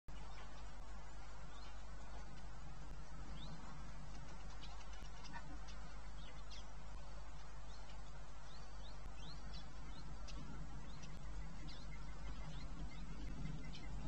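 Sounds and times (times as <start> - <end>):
background hiss: 0.1 - 14.0
birds chirping: 0.1 - 14.0
low hum: 0.1 - 14.0.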